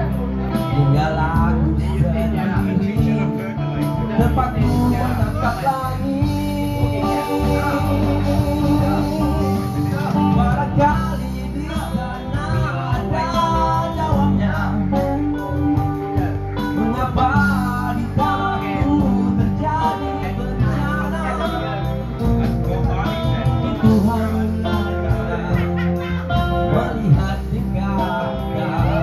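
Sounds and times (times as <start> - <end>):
live band with guitar: 0.0 - 29.0
man singing into microphone: 0.0 - 29.0.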